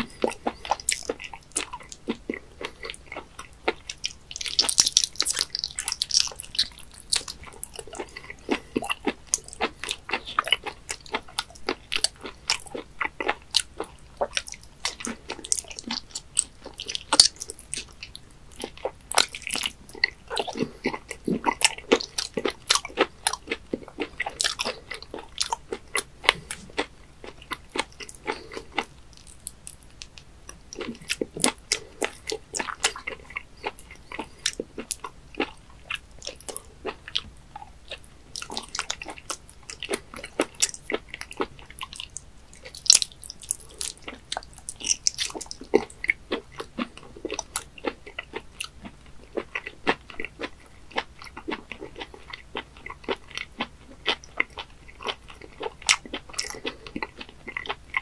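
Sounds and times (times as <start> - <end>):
chewing and sucking: 0.0 - 58.0
mouth clicks and smacks: 0.0 - 58.0.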